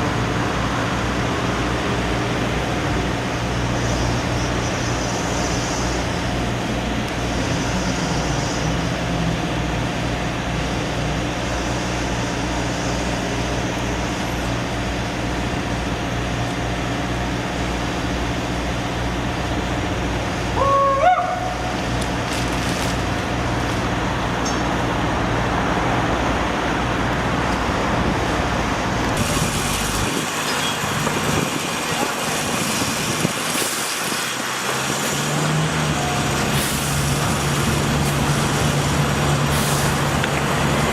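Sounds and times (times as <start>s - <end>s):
large engine running: 0.0s - 40.9s
street traffic: 0.0s - 40.9s.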